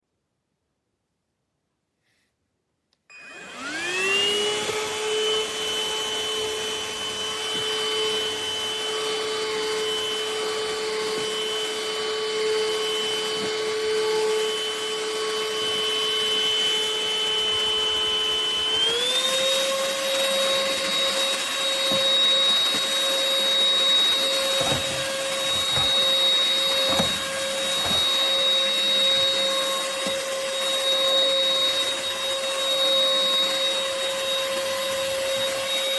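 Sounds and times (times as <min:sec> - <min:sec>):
stick vacuum motor whining: 0:03.1 - 0:35.9.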